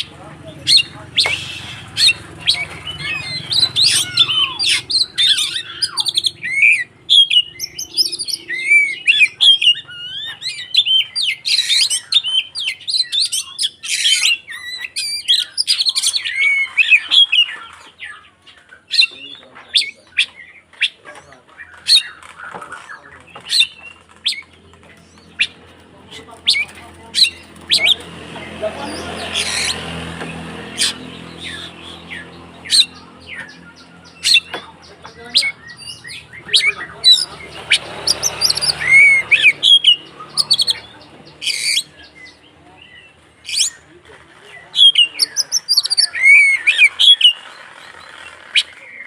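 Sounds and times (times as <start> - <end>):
bird sharp chips: 0.0 - 49.0
bird whistling song: 0.7 - 21.0, 21.7 - 25.6, 30.7 - 43.9, 44.7 - 49.0.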